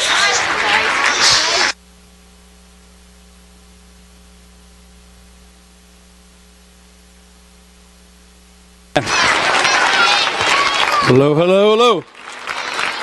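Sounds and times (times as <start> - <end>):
electrical mains hum and hiss: 0.0 - 13.0.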